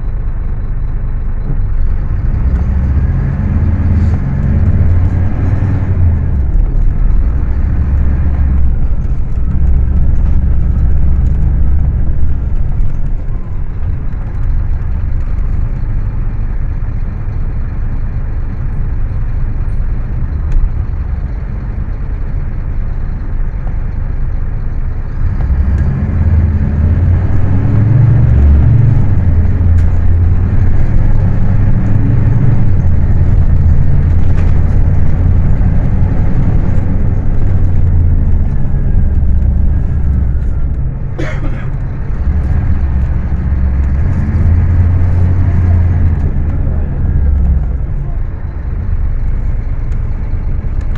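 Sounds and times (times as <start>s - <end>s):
diesel bus engine droning: 0.0s - 50.9s.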